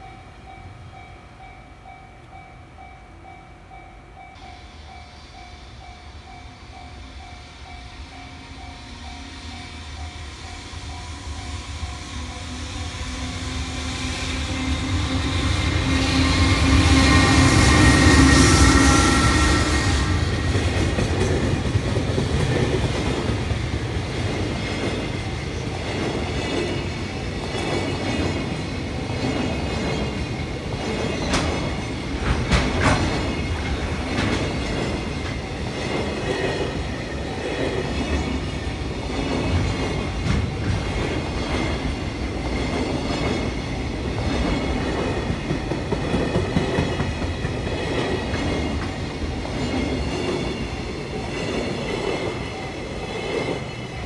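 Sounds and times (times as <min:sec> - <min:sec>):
train wheels rumbling: 0:04.3 - 0:54.0.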